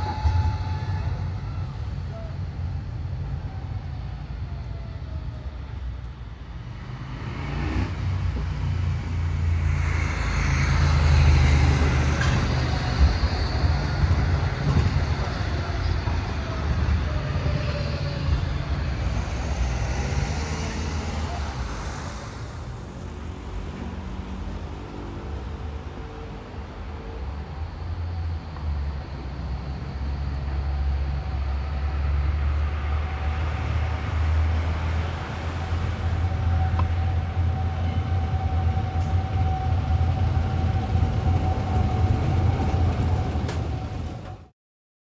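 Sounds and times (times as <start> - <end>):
vehicle rumble: 0.0 - 44.5.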